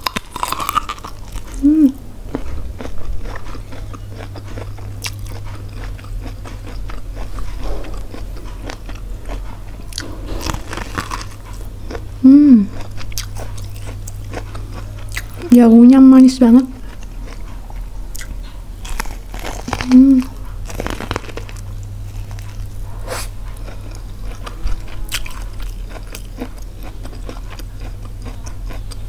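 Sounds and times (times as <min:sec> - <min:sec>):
biting and chewing corn: 0:00.0 - 0:15.6, 0:16.8 - 0:29.0.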